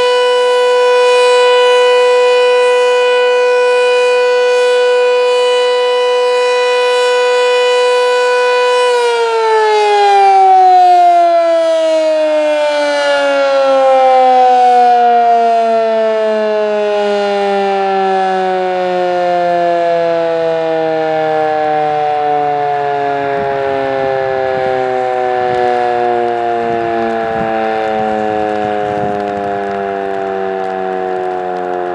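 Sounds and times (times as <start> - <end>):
outdoor warning siren: 0.0 - 31.9.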